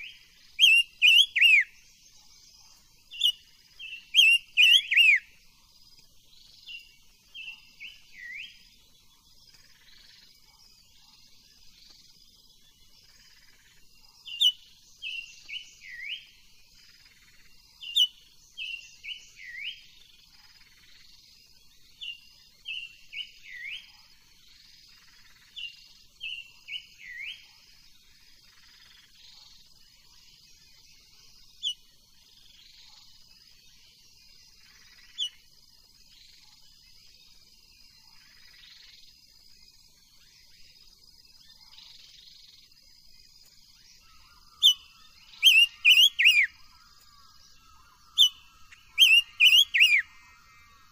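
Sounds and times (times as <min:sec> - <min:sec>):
bird singing whistled notes: 0:00.0 - 0:27.6, 0:30.1 - 0:35.4, 0:36.0 - 0:50.9.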